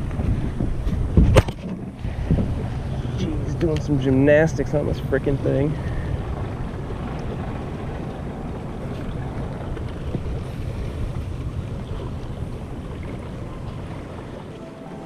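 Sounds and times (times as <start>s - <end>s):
small waves lapping: 0.0s - 15.0s
wind rumbling on microphone: 0.0s - 15.0s.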